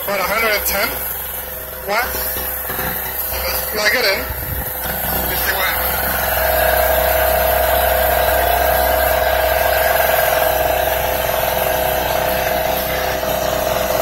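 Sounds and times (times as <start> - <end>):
portable generator engine droning: 0.0 - 14.0.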